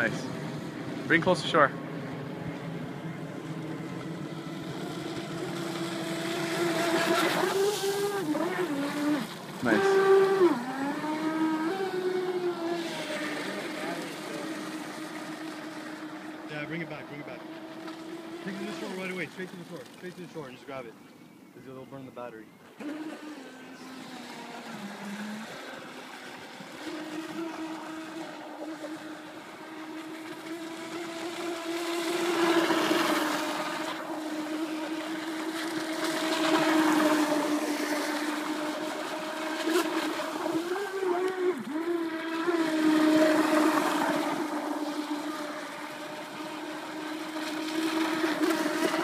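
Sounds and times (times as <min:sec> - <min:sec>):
rc speedboat motor whining: 0:00.0 - 0:49.0.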